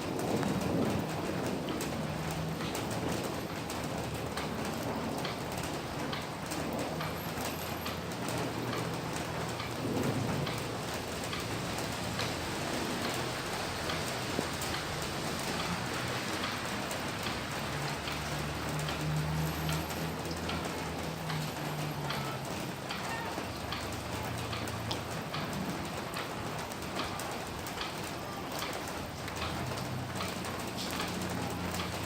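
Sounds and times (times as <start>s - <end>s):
rain falling: 0.0s - 32.0s
raindrops ticking on hard surface: 0.0s - 32.0s.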